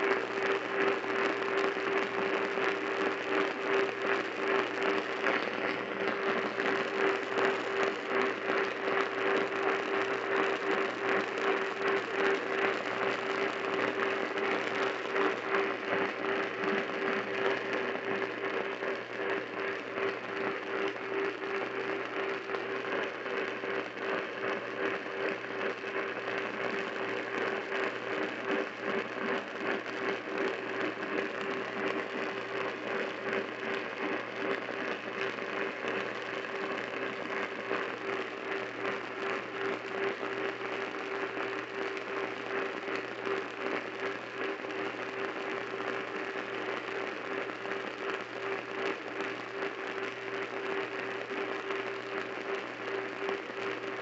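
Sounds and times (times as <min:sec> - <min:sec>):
radio static hiss and crackle: 0:00.0 - 0:54.0.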